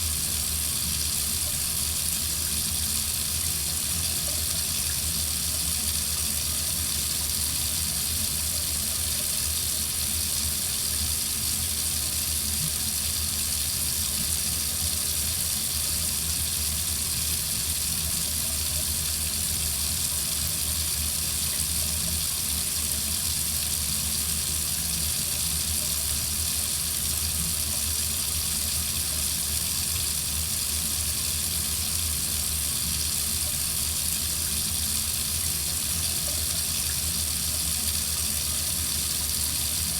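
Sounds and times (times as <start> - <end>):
faucet running into sink: 0.0 - 39.9.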